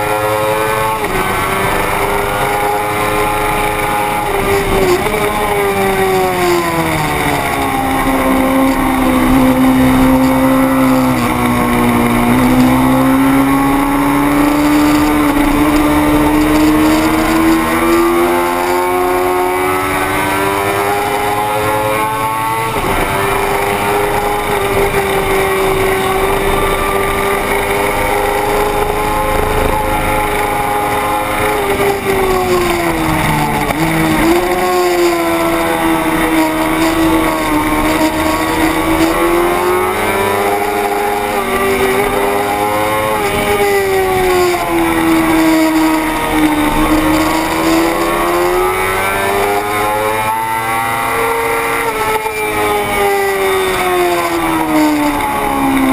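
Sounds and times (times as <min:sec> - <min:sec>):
racing motorcycle engine: 0:00.0 - 0:55.9.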